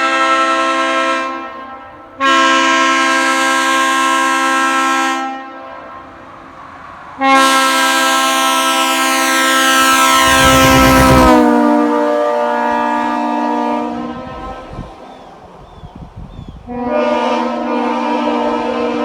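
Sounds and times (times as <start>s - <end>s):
train air horn blasts: 0.0s - 6.3s, 7.2s - 15.1s, 16.7s - 19.0s.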